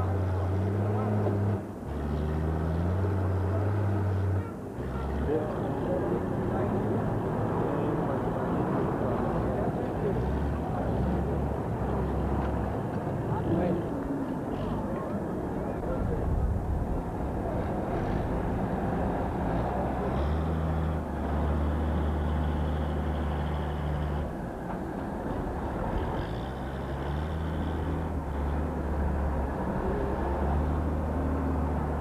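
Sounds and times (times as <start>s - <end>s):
diesel engine droning: 0.0s - 32.0s
faint engine whine: 0.0s - 32.0s
noisy outdoor background: 0.0s - 32.0s.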